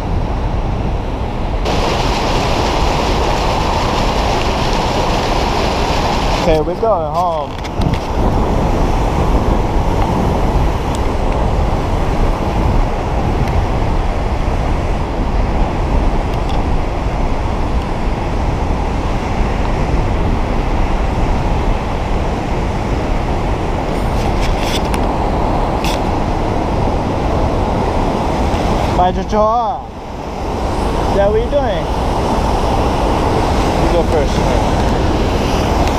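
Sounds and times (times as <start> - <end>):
waterfall roaring: 0.4 - 35.9.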